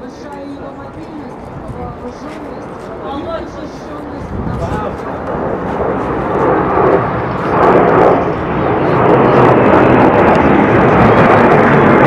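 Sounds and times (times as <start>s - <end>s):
jets flying past: 1.4s - 12.0s.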